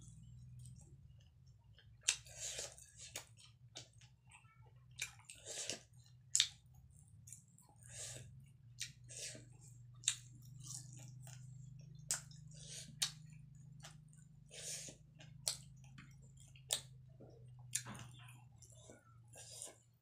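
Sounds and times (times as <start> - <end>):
chewing food: 0.0 - 20.0
low steady hum: 0.0 - 20.0.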